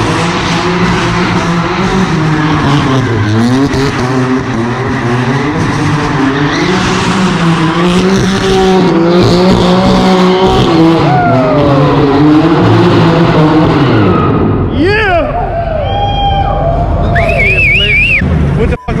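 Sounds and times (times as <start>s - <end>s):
car engines revving hard: 0.0s - 15.8s, 16.4s - 19.0s
crowd noise: 0.0s - 19.0s.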